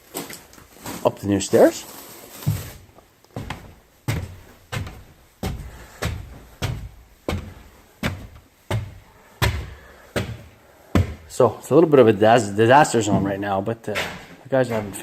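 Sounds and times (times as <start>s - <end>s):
footsteps on hollow stairs: 2.3s - 15.0s.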